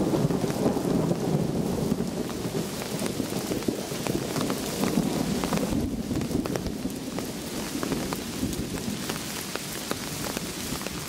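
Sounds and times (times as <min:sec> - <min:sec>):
heavy rain on pavement: 0:00.0 - 0:11.0
rainwater running on ground: 0:00.0 - 0:11.0.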